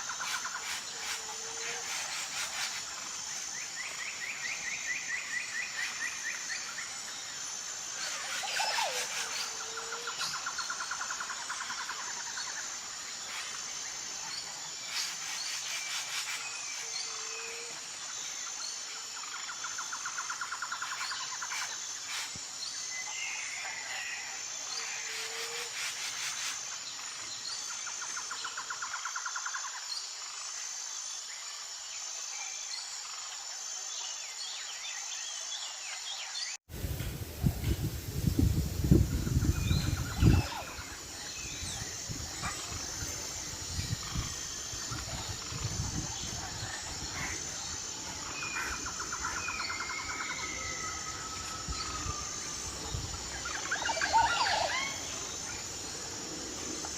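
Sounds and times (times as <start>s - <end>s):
pulsing insect chorus: 0.0s - 56.9s.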